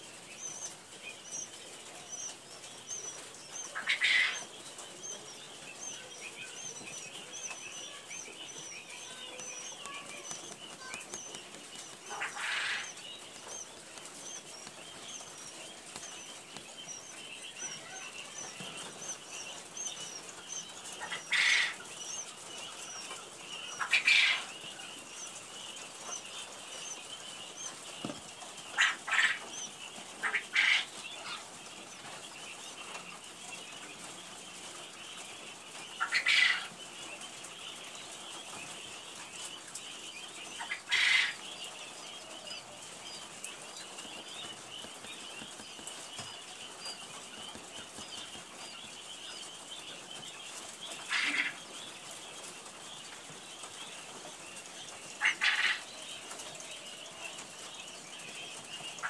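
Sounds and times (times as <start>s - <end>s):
quail chicks peeping: 0.0s - 59.0s.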